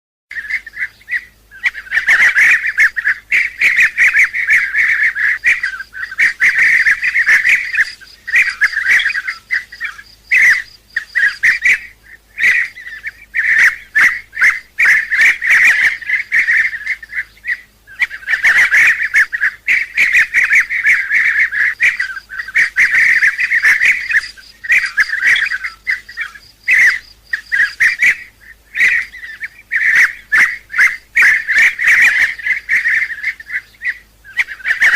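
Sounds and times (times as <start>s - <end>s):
birds trilling calls: 0.3s - 34.9s.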